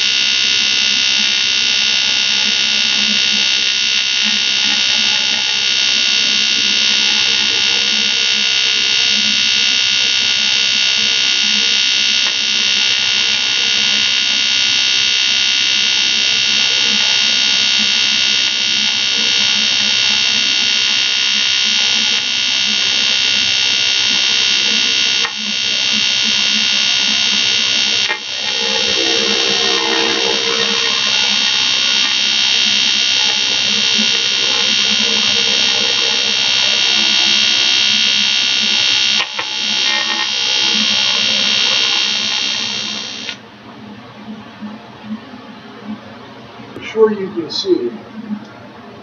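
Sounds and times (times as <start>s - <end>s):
welding arc buzzing: 0.0s - 43.4s.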